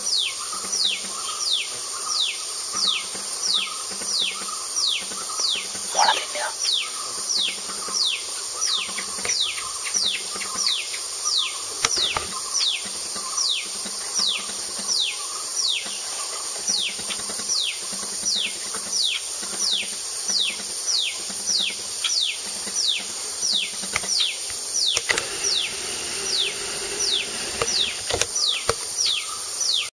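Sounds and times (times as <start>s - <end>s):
constant high hiss: 0.0s - 29.9s.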